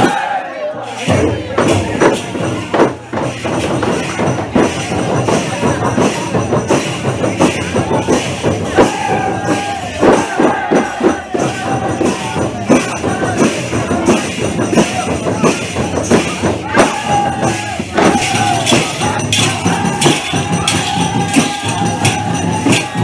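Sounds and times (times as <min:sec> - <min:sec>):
hand drum beating: 0:01.1 - 0:23.0.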